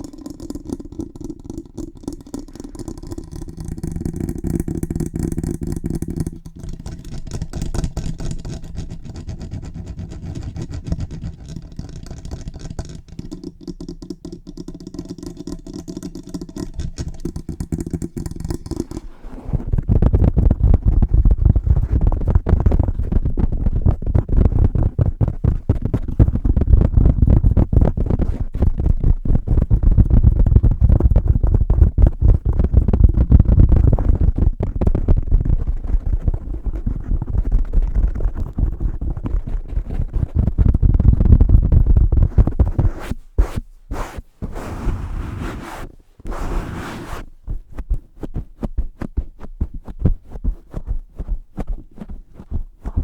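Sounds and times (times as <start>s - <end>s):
tapping and scratching on microphone: 0.0s - 53.0s.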